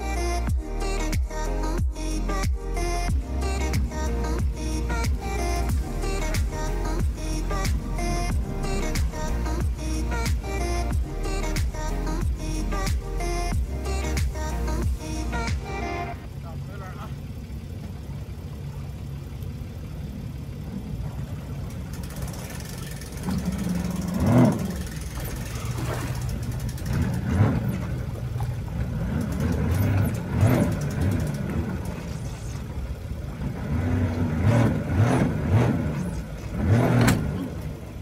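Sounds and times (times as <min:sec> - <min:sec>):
jet ski engine idling and revving: 0:00.0 - 0:38.0.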